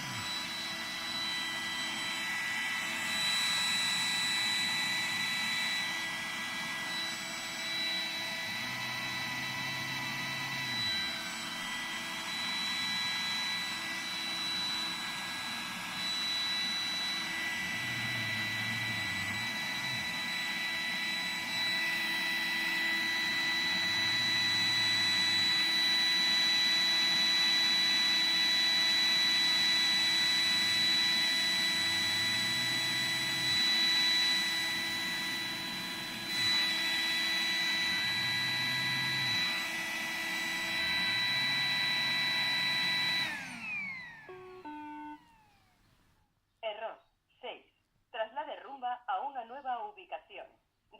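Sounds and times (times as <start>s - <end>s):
robot vacuum motor whine: 0.0s - 45.8s.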